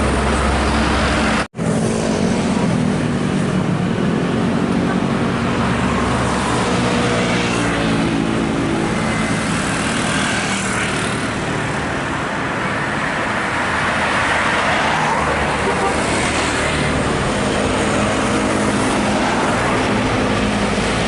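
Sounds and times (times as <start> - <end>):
bus engine hum: 0.0 - 21.0
tyre and road noise: 0.0 - 21.0.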